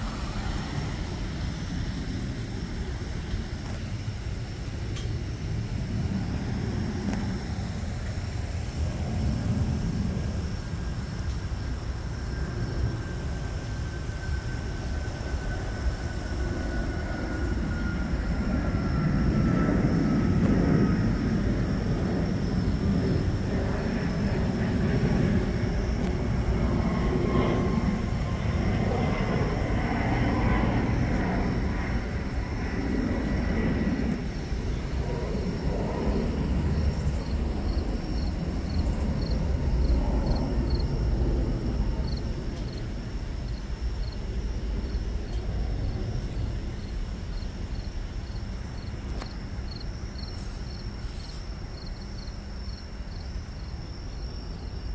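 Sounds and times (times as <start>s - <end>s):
jet aircraft passing overhead: 0.0s - 54.9s
jet engine whine falling in pitch: 0.0s - 54.9s.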